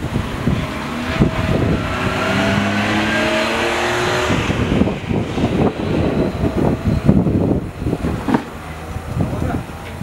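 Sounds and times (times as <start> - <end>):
vehicle engine accelerating: 0.0 - 9.8.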